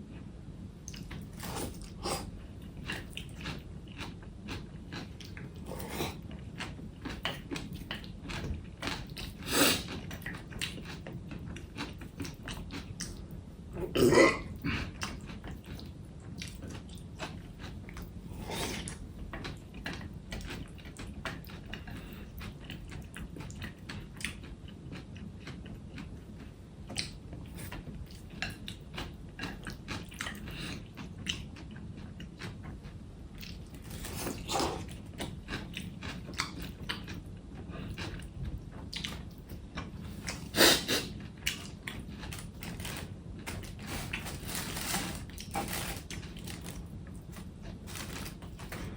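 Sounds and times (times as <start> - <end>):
steady low hum: 0.0 - 48.9
crunchy chewing: 0.9 - 48.9.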